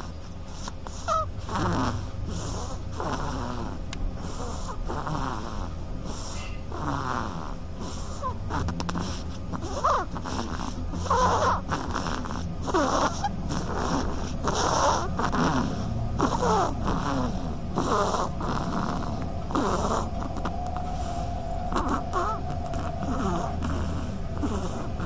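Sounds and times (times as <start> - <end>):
duckling snoring: 0.0 - 25.0.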